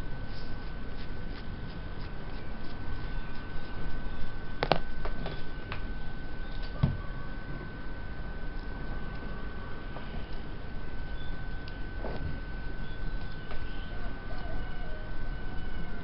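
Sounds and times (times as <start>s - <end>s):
faint high-pitched hum: 0.0s - 16.0s.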